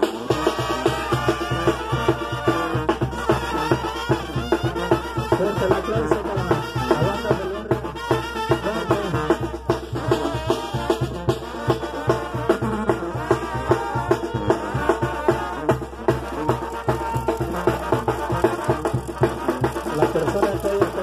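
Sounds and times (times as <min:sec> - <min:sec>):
brass band playing dance music: 0:00.0 - 0:21.0.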